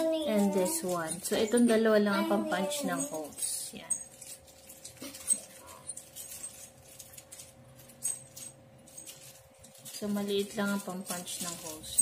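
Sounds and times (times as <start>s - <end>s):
metal tools clicking and clinking: 0.0s - 12.0s.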